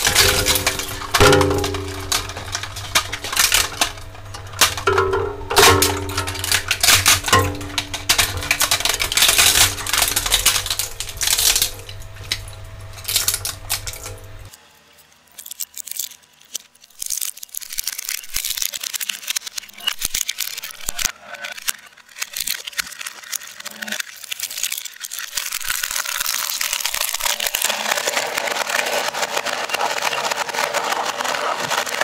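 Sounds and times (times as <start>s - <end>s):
shredder crunching plastic: 0.0s - 32.0s.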